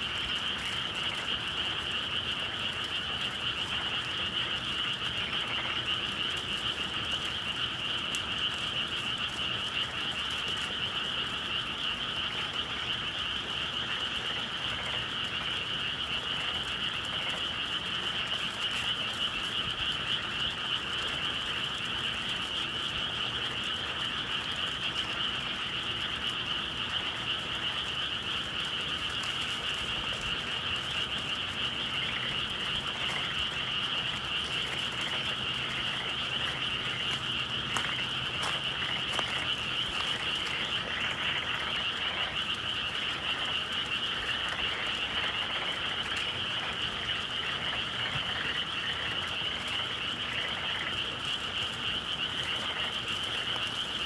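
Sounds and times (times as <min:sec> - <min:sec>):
chorus of frogs calling: 0:00.0 - 0:54.0.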